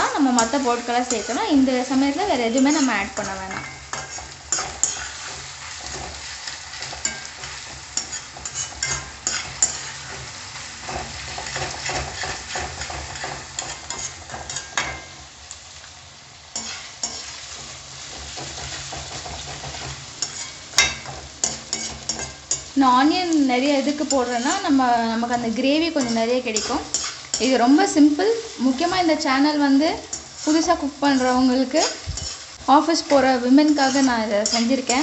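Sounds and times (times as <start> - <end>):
onions frying in oil: 0.0 - 35.0
metal spoon scraping and knocking pan: 0.3 - 15.2, 16.5 - 28.0, 30.0 - 35.0.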